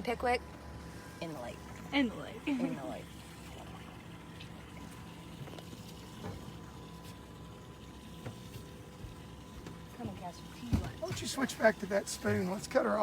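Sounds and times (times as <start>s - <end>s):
faint steady hum: 0.0s - 13.0s
water lapping against metal hull: 1.3s - 13.0s.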